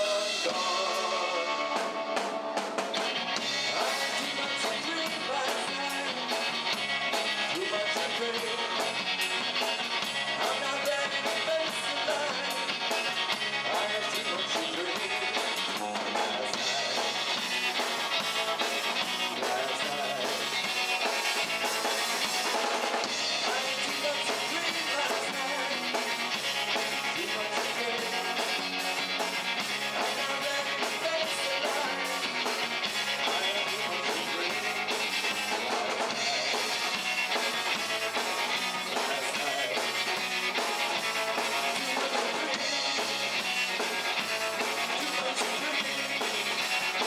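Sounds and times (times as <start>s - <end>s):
drum kit: 0.0s - 47.0s
electric guitar: 0.0s - 47.0s.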